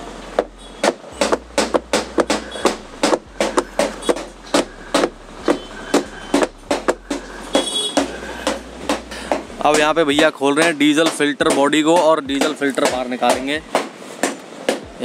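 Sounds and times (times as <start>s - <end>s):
air filter knocking on hard surface: 0.4s - 15.0s.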